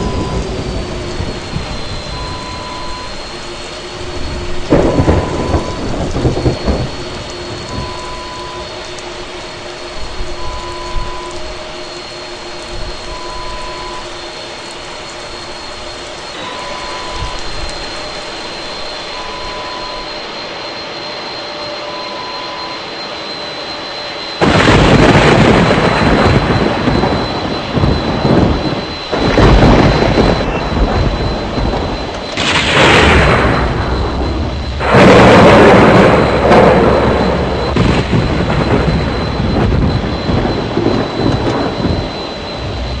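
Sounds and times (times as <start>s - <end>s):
jet airliner hiss and whine: 0.0s - 43.0s
jet engine rumbling surges: 0.0s - 43.0s.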